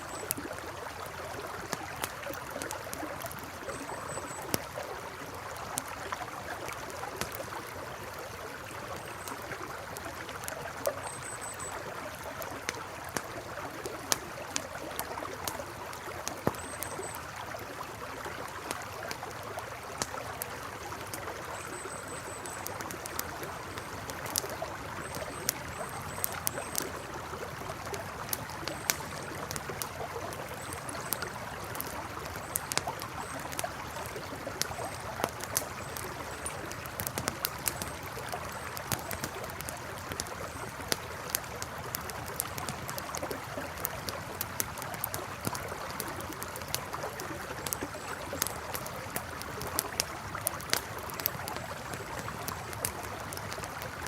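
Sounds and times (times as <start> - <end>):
campfire crackling and popping: 0.0 - 54.0
river flowing: 0.0 - 54.0.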